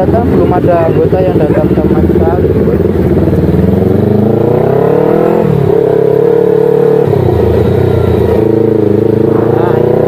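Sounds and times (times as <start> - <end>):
motorcycle engine: 0.0 - 10.0.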